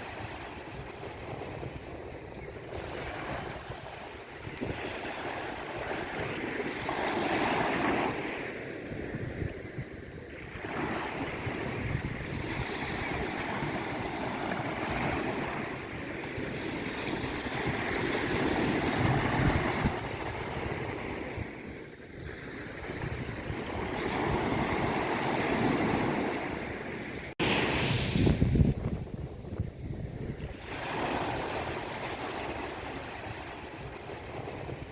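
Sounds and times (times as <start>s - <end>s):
sea waves washing in: 0.0s - 34.9s.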